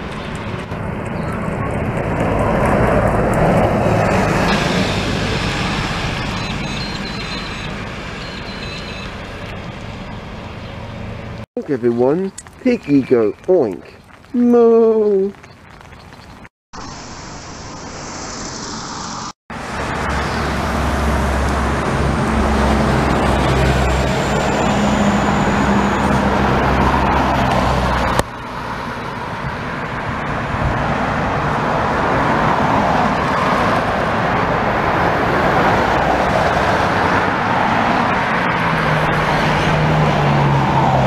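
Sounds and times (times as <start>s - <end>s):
cars passing: 0.0s - 14.0s, 19.5s - 41.0s.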